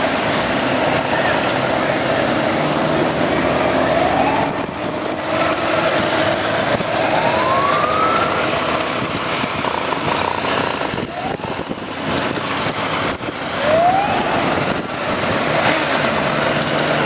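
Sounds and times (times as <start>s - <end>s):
wind and road noise: 0.0s - 17.0s
motorcycle engine accelerating: 1.6s - 17.0s.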